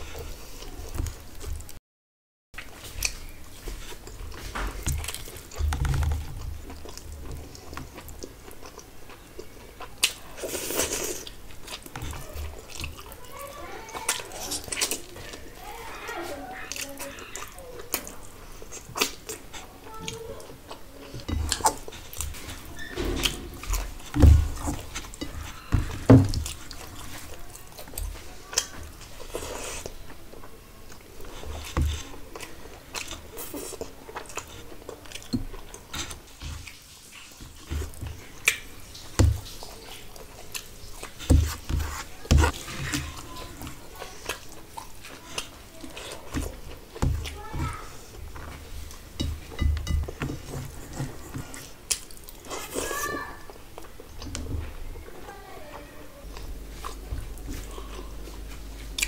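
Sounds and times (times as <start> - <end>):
chewing and biting food: 2.6 - 15.6, 16.5 - 54.5.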